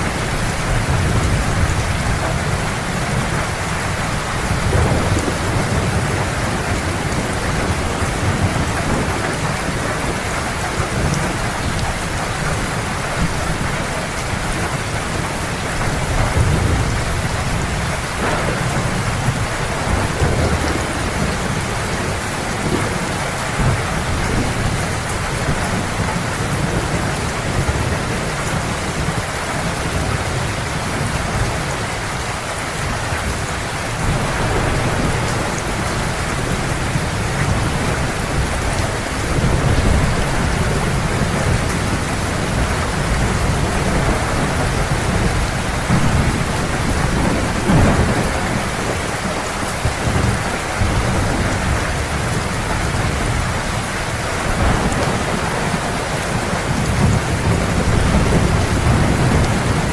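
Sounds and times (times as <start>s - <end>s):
heavy rain pouring: 0.0s - 59.9s
low thunder rumbling: 0.0s - 59.9s.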